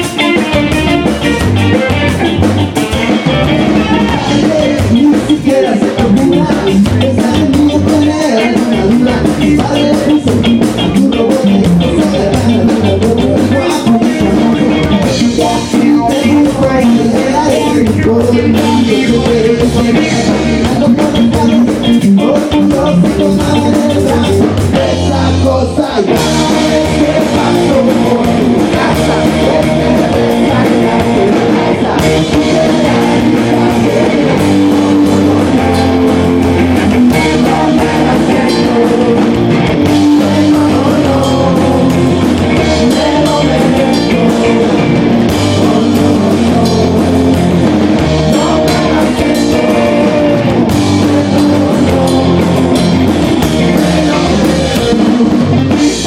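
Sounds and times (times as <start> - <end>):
drum kit: 0.0 - 56.0
electric guitar: 0.0 - 56.0
person singing: 0.0 - 56.0.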